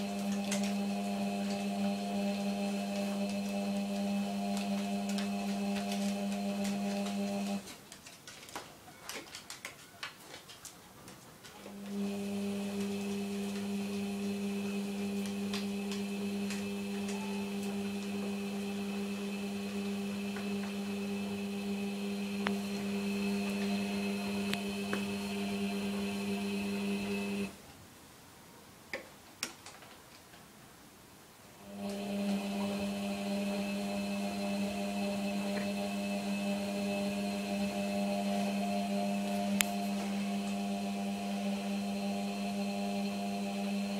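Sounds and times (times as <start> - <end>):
washing machine motor hum: 0.0 - 7.7, 11.6 - 27.6, 31.6 - 43.9
clicks: 0.0 - 10.8, 11.4 - 27.5, 31.7 - 43.1.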